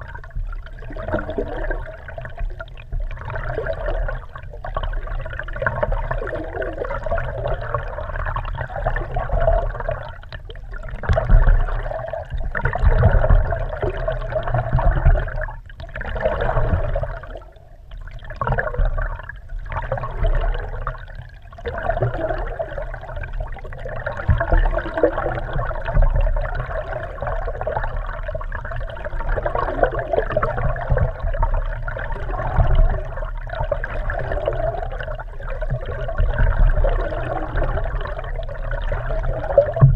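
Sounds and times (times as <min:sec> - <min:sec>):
muffled water rushing and gurgling: 0:00.0 - 0:39.9.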